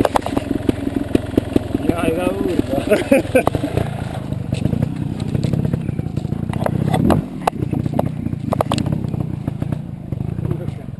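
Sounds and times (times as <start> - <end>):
motorcycle engine at low revs: 0.0 - 10.9
sharp knocks and rattles: 0.0 - 10.9.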